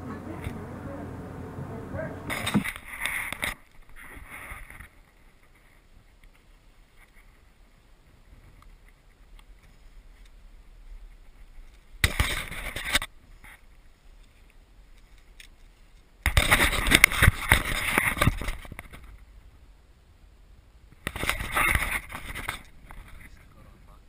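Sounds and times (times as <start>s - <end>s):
rustling and scraping handling noise: 2.3s - 19.3s, 21.0s - 23.8s.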